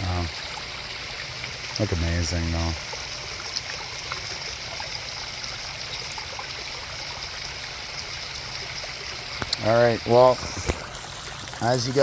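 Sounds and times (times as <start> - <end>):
waterfall splashing and trickling: 0.0 - 12.0.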